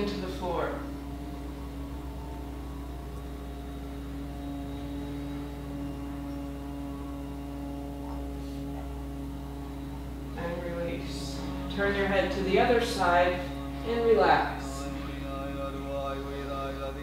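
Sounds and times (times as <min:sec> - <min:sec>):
droning hum of held tones: 0:00.0 - 0:17.0
low rumble: 0:00.0 - 0:17.0.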